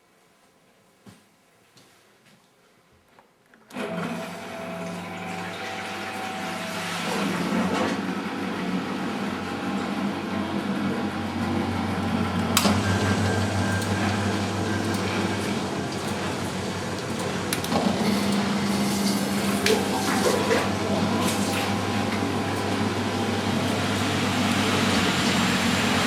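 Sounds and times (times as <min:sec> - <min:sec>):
washing machines spinning: 0:03.7 - 0:26.0.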